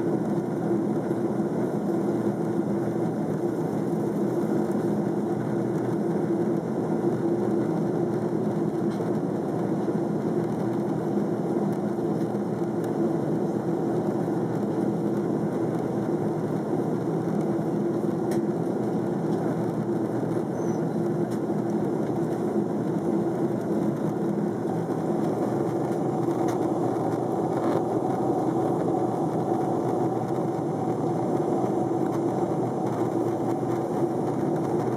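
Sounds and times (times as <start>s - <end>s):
airliner cabin drone: 0.0s - 34.9s.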